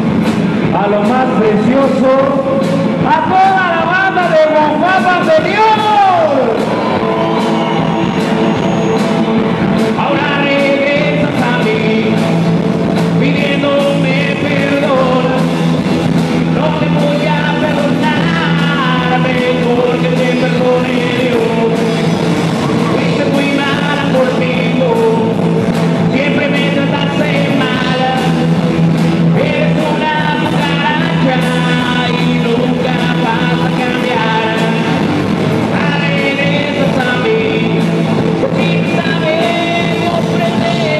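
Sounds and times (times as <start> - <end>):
rock song with singer: 0.0 - 40.9.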